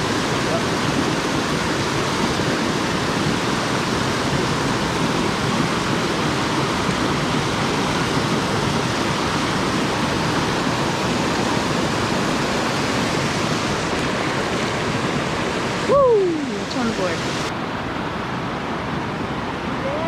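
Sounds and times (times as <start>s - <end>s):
fast-flowing river water rushing: 0.0s - 20.0s.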